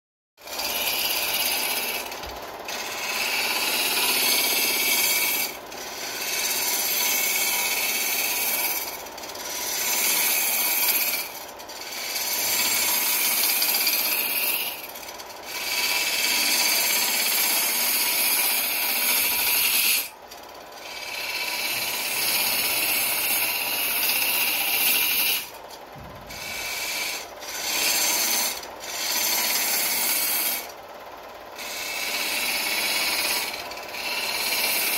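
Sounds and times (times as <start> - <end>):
gouge scraping spinning wood: 0.4 - 34.9.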